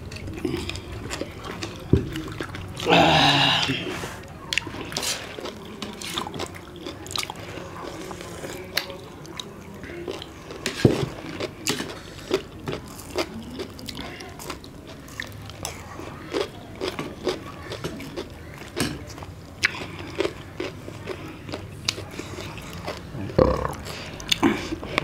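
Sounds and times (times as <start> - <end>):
people biting and chewing food: 0.0 - 25.0.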